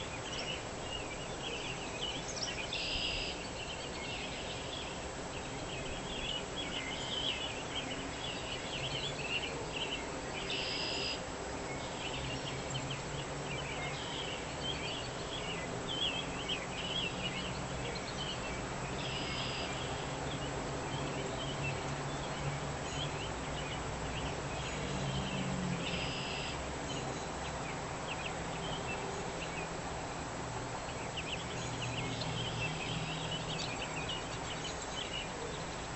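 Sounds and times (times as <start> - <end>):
background hiss: 0.0 - 35.9
songbirds chirping: 0.0 - 35.9.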